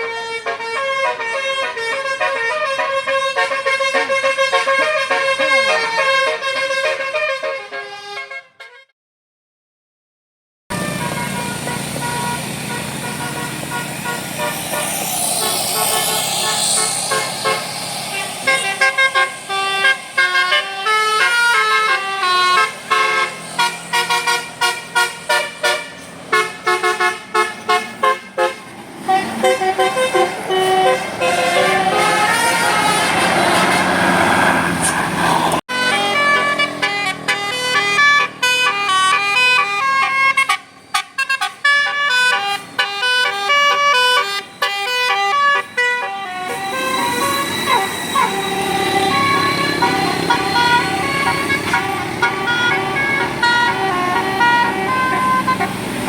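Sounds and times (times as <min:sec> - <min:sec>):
musical bus air horn: 0:00.0 - 0:08.9, 0:10.7 - 0:56.0.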